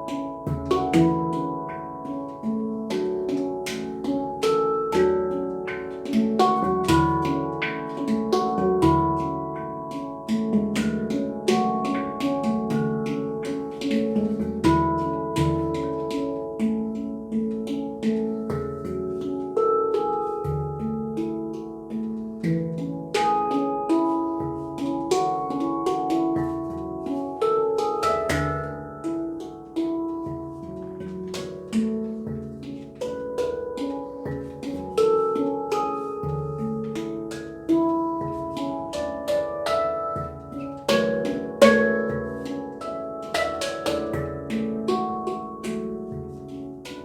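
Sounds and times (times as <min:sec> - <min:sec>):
handpan notes ringing: 0:00.0 - 0:47.0.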